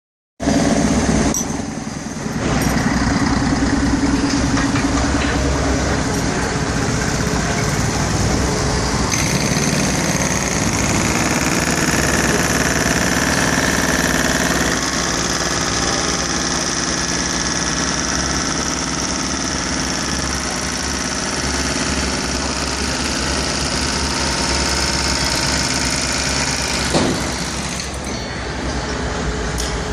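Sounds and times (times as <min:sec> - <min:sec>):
diesel engines running: 0:00.4 - 0:29.9.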